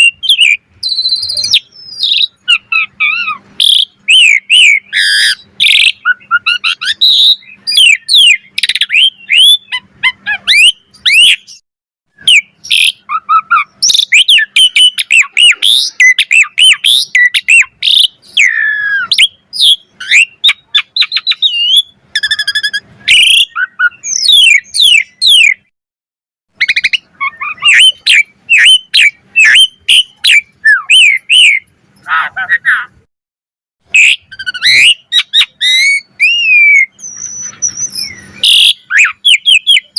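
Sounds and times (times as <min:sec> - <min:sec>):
starling singing: 0:00.0 - 0:25.7, 0:26.5 - 0:33.1, 0:33.9 - 0:39.9.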